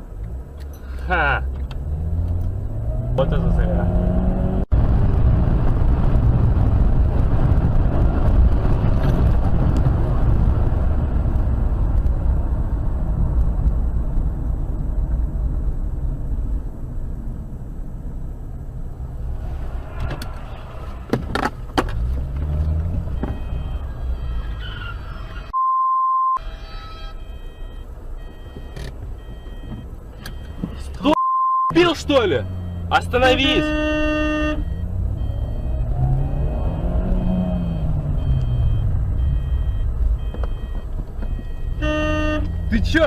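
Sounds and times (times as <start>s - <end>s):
car engine and tyre noise: 0.0s - 43.0s.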